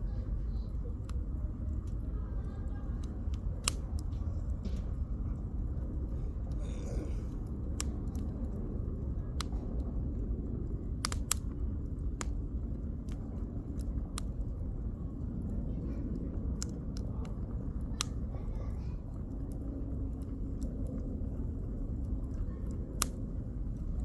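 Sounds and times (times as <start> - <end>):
steady low rumble: 0.0 - 24.0
campfire crackling and popping: 0.1 - 24.0.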